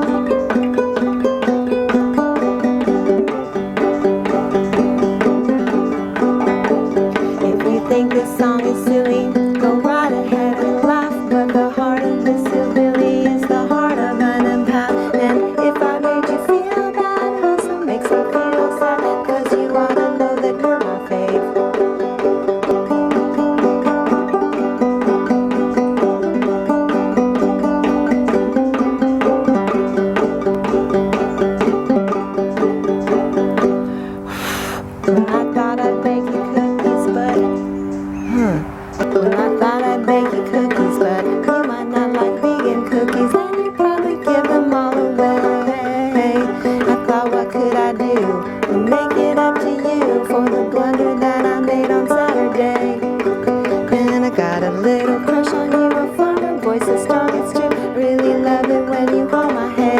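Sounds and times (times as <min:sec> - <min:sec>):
banjo playing: 0:00.0 - 0:38.1, 0:38.9 - 0:59.9.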